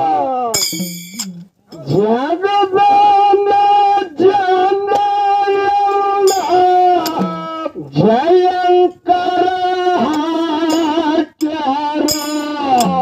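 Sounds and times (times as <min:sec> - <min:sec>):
man singing folk song: 0:01.8 - 0:13.0.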